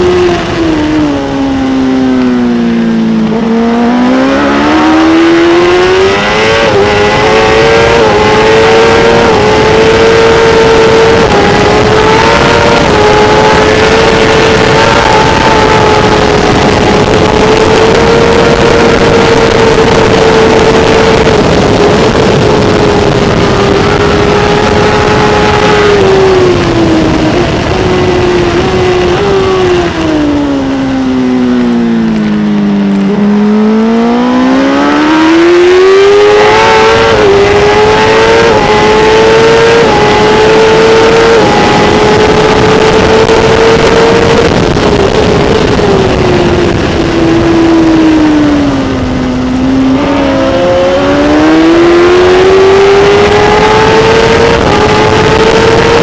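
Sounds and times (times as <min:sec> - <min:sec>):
motorcycle engine at racing speed: 0:00.0 - 0:56.0.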